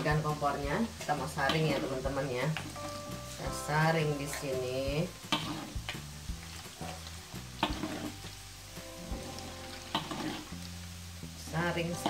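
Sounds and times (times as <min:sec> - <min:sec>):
hot oil sizzling and bubbling: 0:00.0 - 0:12.0.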